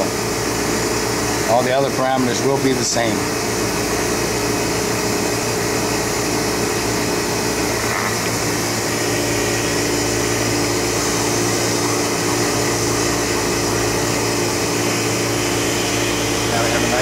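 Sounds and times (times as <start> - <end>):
machine hum and whir: 0.0 - 17.0.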